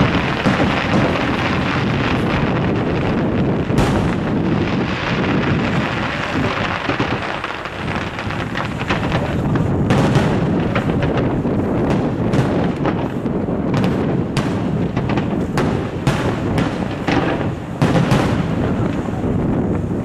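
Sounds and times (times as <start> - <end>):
firework shells bursting: 0.0 - 20.0
low rumble of explosions: 0.0 - 20.0.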